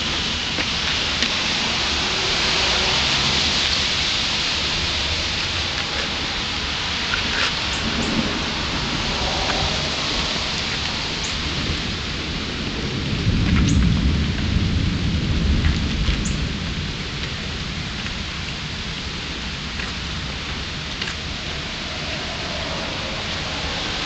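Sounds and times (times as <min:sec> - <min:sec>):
low rumble: 0:00.0 - 0:24.0
steady rain falling: 0:00.0 - 0:24.0.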